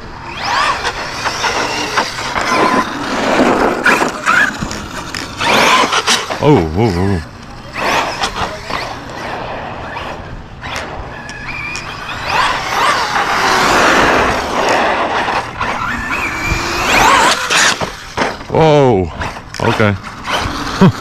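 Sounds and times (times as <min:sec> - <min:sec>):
rc truck motor whine: 0:00.0 - 0:21.0.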